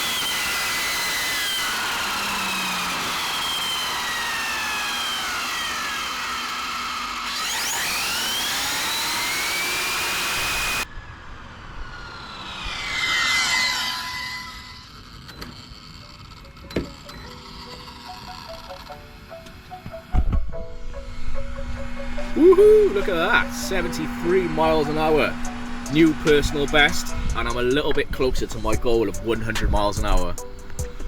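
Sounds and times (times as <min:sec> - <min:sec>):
electric motor and gear whine: 0:00.0 - 0:31.0.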